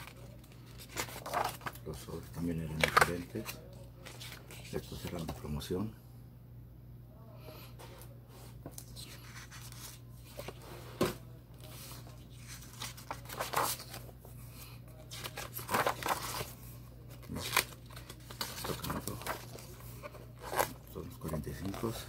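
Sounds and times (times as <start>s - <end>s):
paper record sleeves rustling: 0.0s - 5.5s, 8.6s - 14.2s, 14.9s - 22.0s
low electrical hum: 0.0s - 22.0s.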